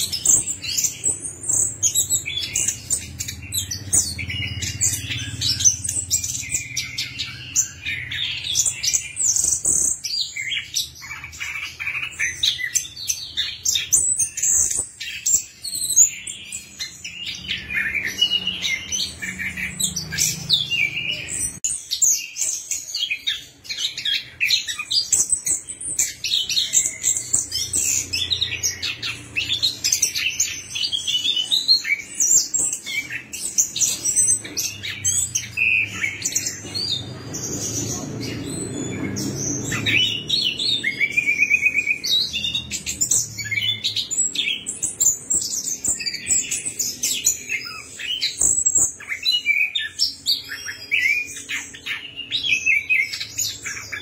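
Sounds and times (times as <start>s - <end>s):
bird singing chirps and trills: 0.0s - 54.0s.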